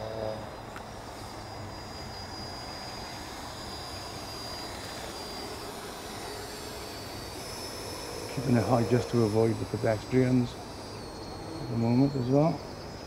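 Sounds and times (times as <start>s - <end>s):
model jet fan whine: 0.0s - 13.0s.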